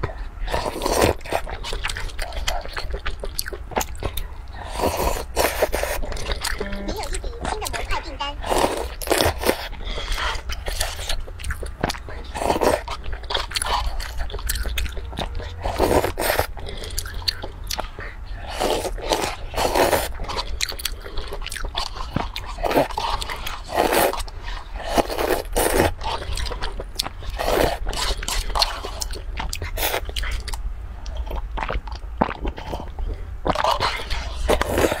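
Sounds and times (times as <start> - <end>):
person crunching and chewing food: 0.0 - 35.0.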